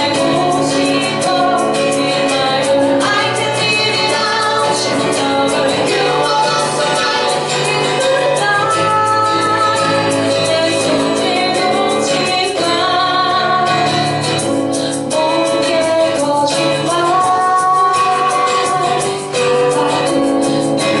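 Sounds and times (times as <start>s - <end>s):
strummed instrumental accompaniment: 0.0s - 21.0s
woman singing: 0.0s - 21.0s.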